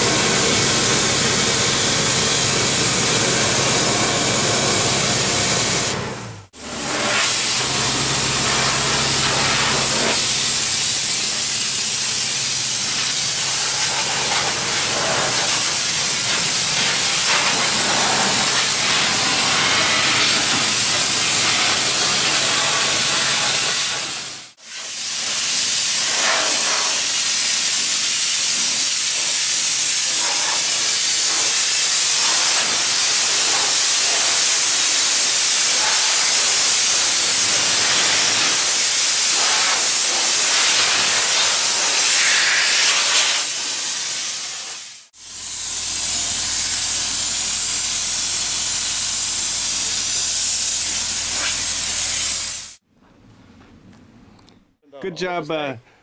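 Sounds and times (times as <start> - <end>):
compressed air hissing: 0.0 - 52.8.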